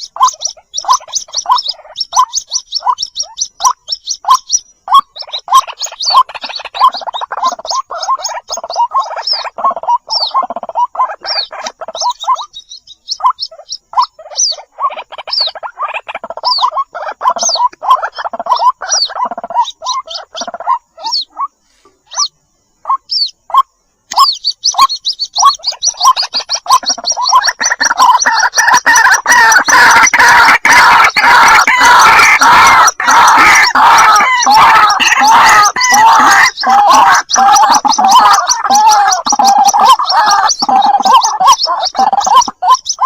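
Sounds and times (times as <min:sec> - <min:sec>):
bird chicks calling rapidly: 0:00.0 - 0:43.0
high thin falling peeps: 0:00.0 - 0:43.0.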